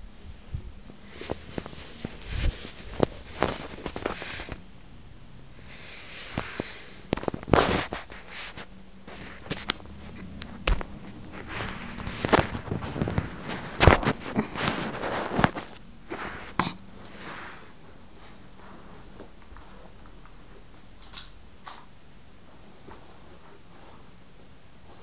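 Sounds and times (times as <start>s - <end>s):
rustling: 0.0s - 4.7s, 5.6s - 25.0s.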